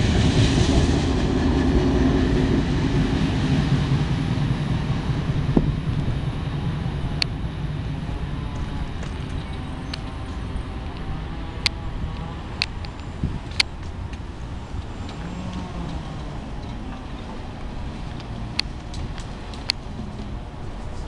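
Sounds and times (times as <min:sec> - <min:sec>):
freight train rumble: 0:00.0 - 0:21.0.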